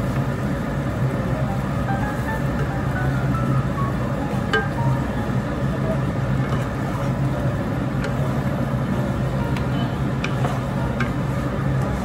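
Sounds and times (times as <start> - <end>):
sauce bubbling in a wok: 0.0 - 12.0
steady low hum: 0.0 - 12.0.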